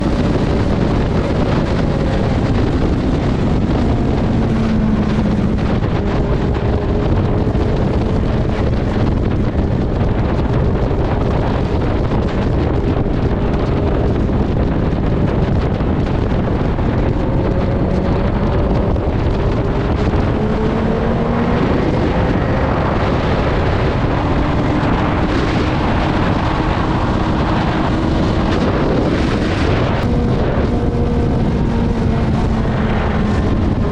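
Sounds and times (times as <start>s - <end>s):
motorcycle engine: 0.0s - 33.9s
wind noise on microphone: 0.0s - 33.9s.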